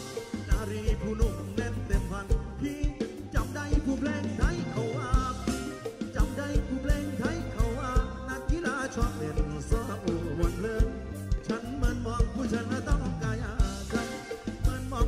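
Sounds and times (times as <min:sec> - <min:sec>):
bass: 0:00.0 - 0:15.0
drum kit beat: 0:00.0 - 0:15.0
person singing: 0:00.0 - 0:15.0.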